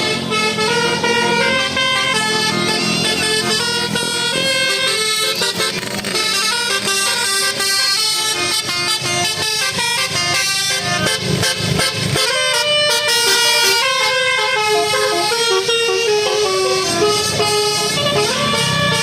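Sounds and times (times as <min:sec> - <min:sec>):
musical vehicle horn melody: 0:00.0 - 0:19.0.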